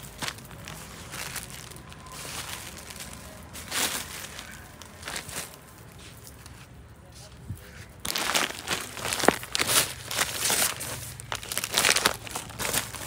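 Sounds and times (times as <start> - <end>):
plastic bags crinkling: 0.0 - 6.5, 8.0 - 13.0.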